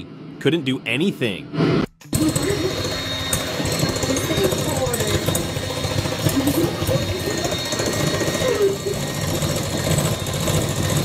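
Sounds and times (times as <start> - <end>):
electric hand mixer buzzing: 2.1 - 11.0.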